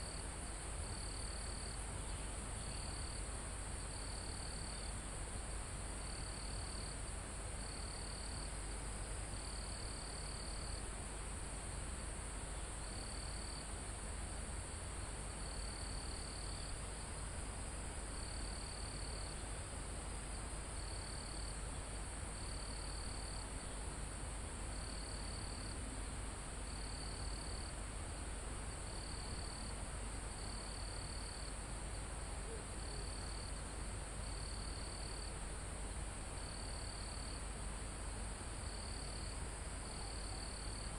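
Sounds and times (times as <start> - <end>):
crickets and insects droning: 0.0 - 40.9.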